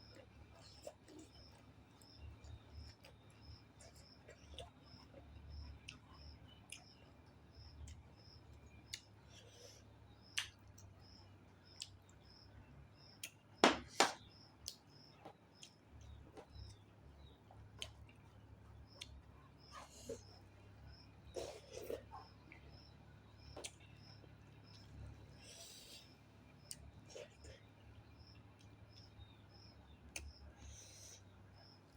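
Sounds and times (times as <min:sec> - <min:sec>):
chewing clicks and smacks: 0:00.0 - 0:09.6, 0:10.2 - 0:25.3, 0:26.5 - 0:31.3.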